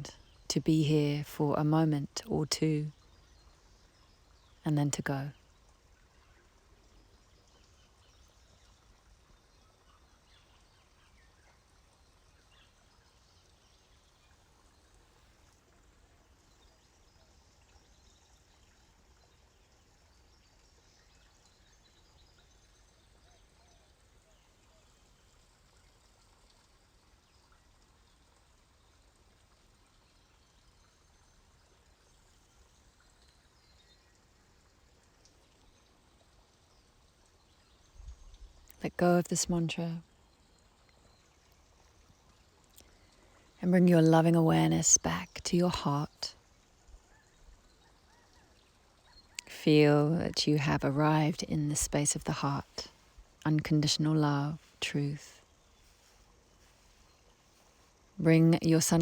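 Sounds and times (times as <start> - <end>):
trickling stream: 0.0 - 59.0.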